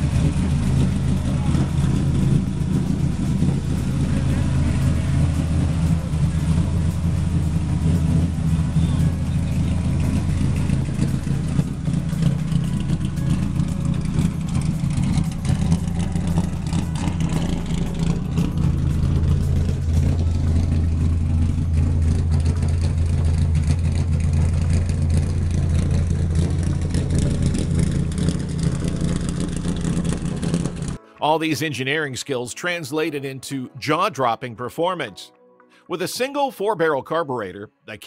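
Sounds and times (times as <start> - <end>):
engine idling deep: 0.0 - 31.1.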